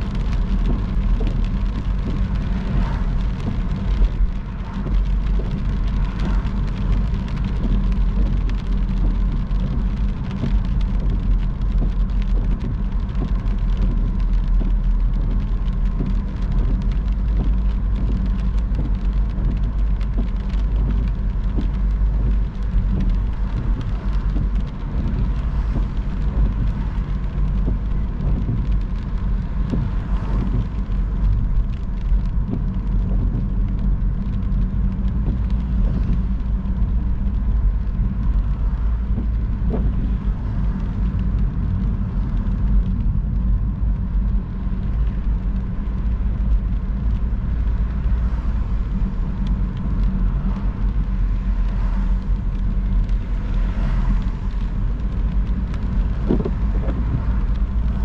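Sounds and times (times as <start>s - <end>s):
raindrops ticking: 0.0s - 58.0s
tyres and engine rumbling: 0.0s - 58.0s.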